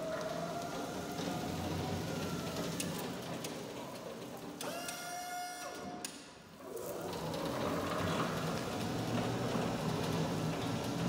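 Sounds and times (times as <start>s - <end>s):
wheels rumbling on concrete: 0.0s - 4.6s, 6.6s - 11.0s.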